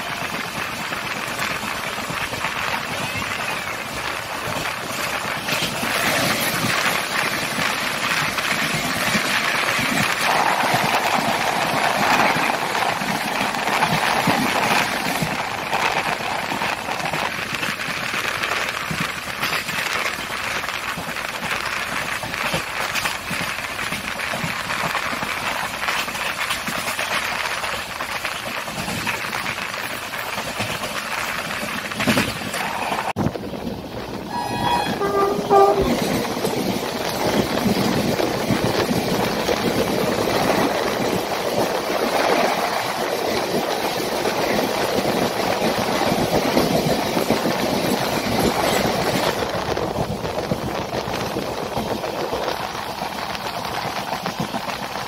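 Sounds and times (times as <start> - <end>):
train clicks and rattles: 0.0 - 55.0
train wheels on track: 0.0 - 55.0.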